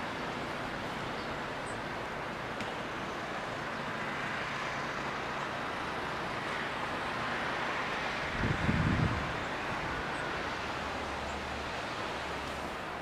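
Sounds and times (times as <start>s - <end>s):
distant road traffic hiss: 0.0s - 13.0s.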